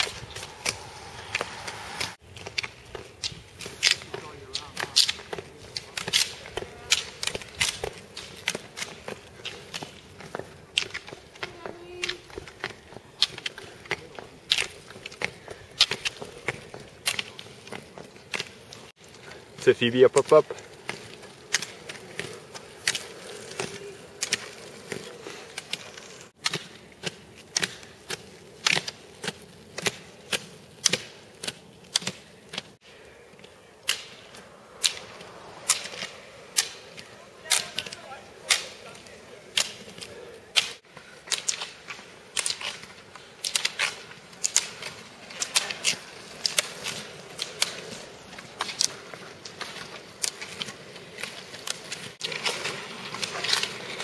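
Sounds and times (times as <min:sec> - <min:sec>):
speed skates clacking: 0:00.0 - 0:54.0.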